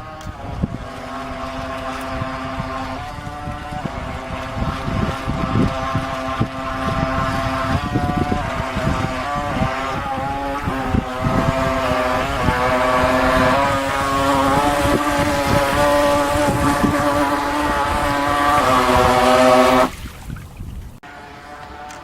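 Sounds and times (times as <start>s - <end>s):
electric motor whining: 0.0s - 20.0s, 21.0s - 22.0s
wind buffeting microphone: 0.0s - 22.0s.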